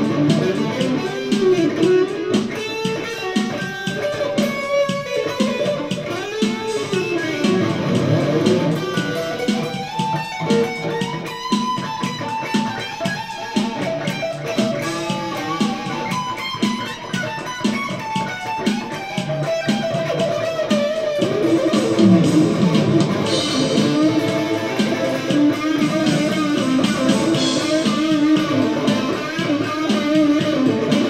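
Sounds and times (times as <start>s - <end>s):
electric guitar playing: 0.0s - 31.0s.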